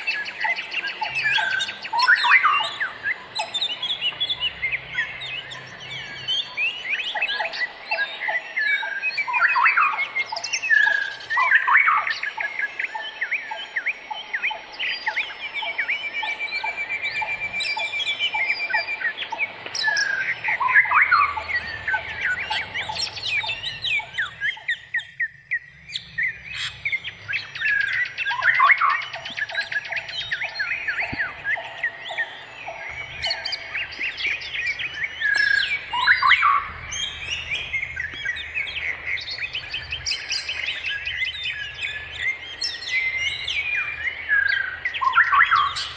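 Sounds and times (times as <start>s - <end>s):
bird rapid trill: 0.0s - 45.9s
birds chirping and calling: 0.0s - 45.9s
repeated low bird notes: 0.0s - 45.9s.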